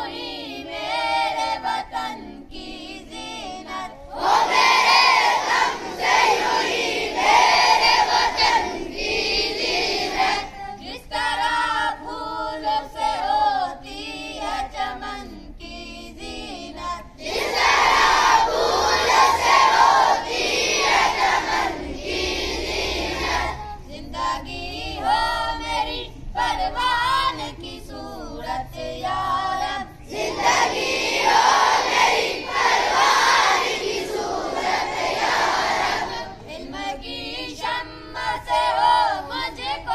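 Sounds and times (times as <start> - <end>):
boys chanting in unison: 0.0 - 15.8, 16.5 - 39.9.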